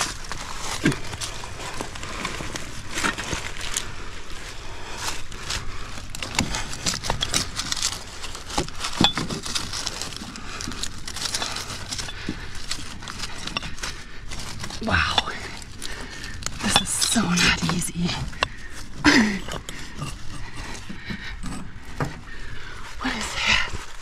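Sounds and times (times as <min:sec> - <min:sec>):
dry leaves crackling and rustling: 0:00.0 - 0:19.4.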